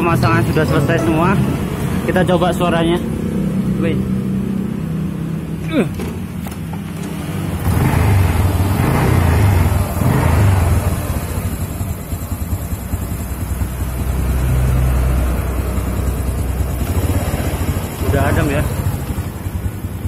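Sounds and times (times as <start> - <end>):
motorcycle engine revving and idling: 0.0 - 20.0.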